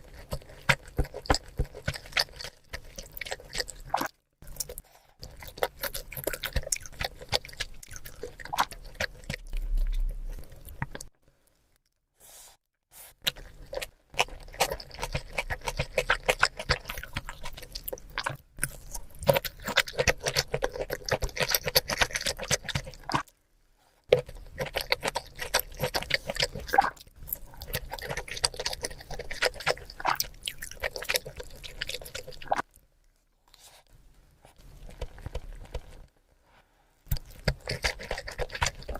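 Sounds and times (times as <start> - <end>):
chewing and eating: 0.0 - 12.0, 13.0 - 36.2, 37.0 - 38.9.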